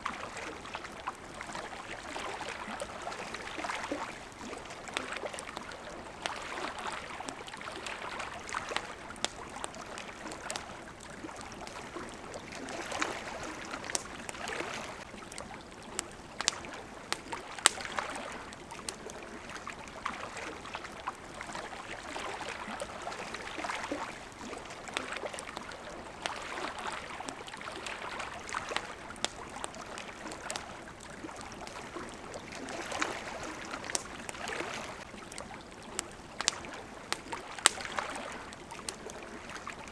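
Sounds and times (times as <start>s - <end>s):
campfire crackling: 0.0s - 39.9s
flowing water: 0.0s - 39.9s
water lapping against shore: 0.0s - 39.9s.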